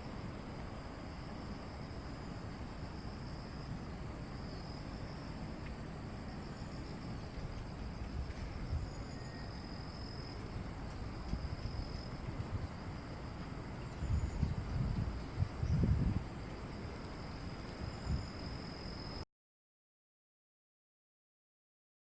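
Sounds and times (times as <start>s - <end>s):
crickets trilling: 0.0s - 19.2s
higher pulsing insect chirp: 0.0s - 19.2s
low wind rumble: 0.0s - 19.2s.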